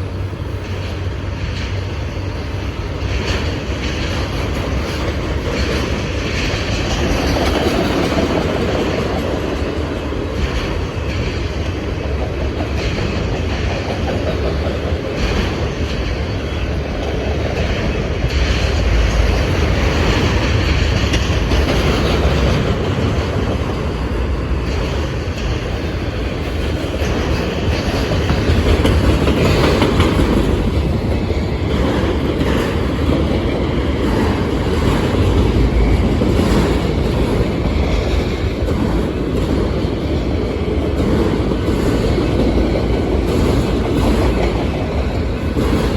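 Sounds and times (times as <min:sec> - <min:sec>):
freight train wheels clacking: 0:00.0 - 0:45.9.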